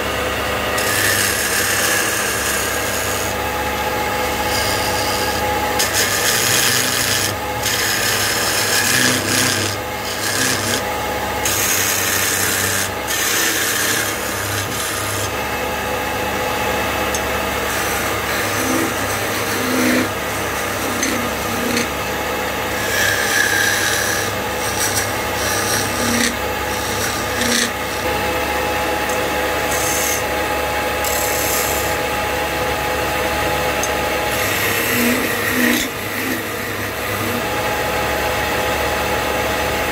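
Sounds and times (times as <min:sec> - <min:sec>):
chisel scraping spinning wood: 0:00.0 - 0:39.6
wood lathe humming: 0:00.0 - 0:39.9.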